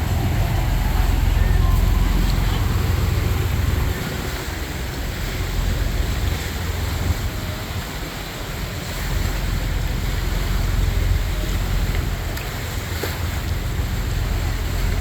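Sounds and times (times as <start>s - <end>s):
choppy water washing: 0.0s - 15.0s
low rumble: 0.0s - 15.0s
wind buffeting microphone: 0.0s - 15.0s.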